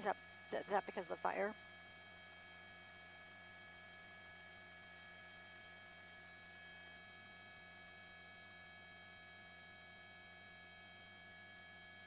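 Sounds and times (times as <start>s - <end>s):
faint electronic hum: 0.0s - 12.0s.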